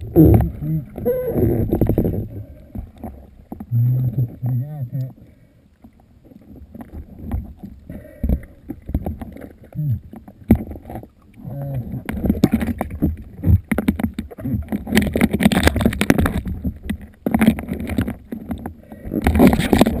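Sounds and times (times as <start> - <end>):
water sloshing: 0.0 - 20.0.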